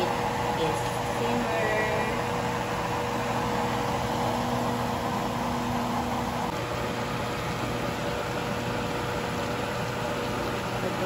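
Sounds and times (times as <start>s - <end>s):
vegetables simmering in a pan: 0.0s - 11.0s.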